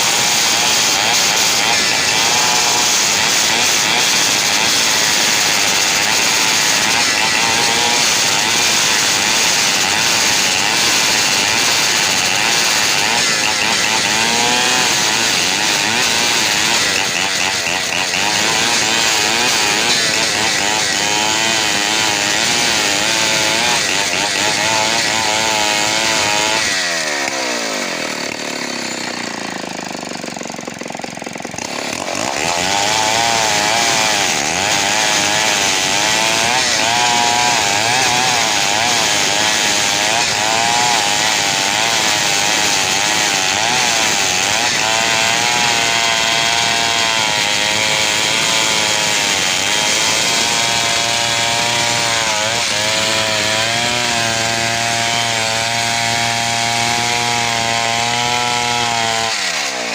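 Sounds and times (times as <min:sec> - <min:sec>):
chainsaw sawing through wood: 0:00.0 - 0:59.9.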